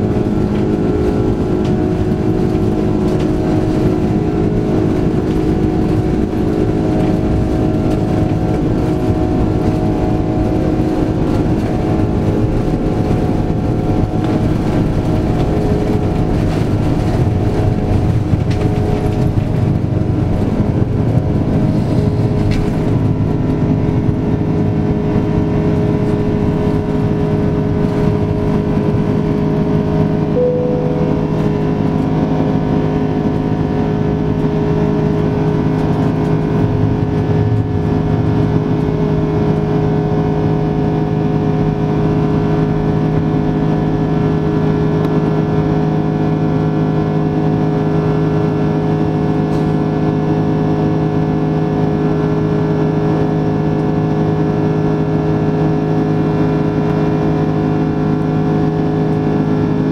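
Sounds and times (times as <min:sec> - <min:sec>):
jet engine drone in cabin: 0:00.0 - 0:59.9
rumble of air and airframe: 0:00.0 - 0:59.9.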